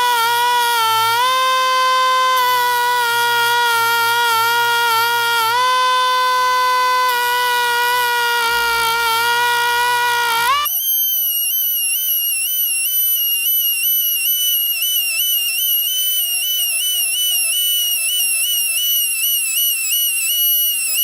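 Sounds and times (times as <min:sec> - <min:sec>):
electric grinder whining on steel: 0:00.0 - 0:21.0.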